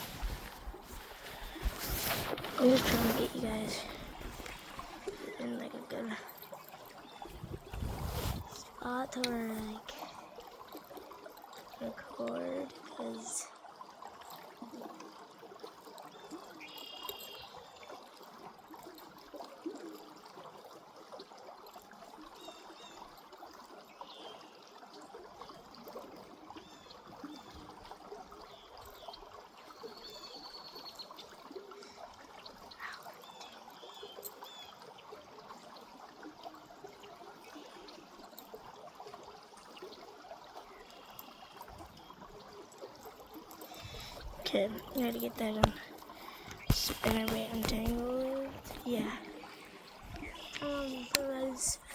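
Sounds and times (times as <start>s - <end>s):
creek water trickling: 0.0s - 51.9s.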